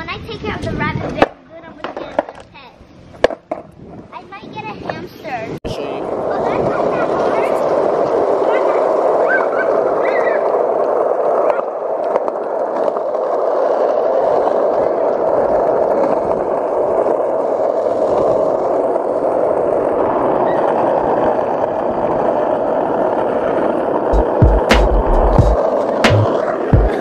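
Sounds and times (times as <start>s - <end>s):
skateboard wheels rolling on asphalt: 0.0s - 27.0s.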